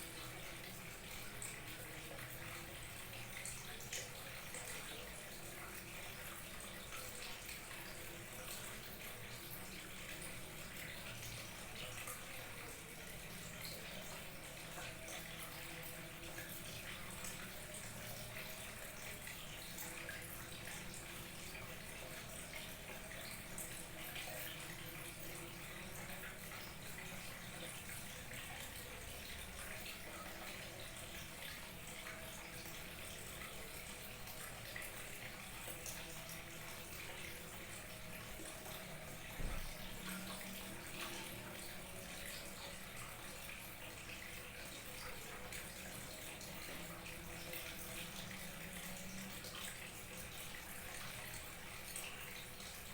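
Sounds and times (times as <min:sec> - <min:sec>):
small waterfall trickling: 0:00.0 - 0:52.9.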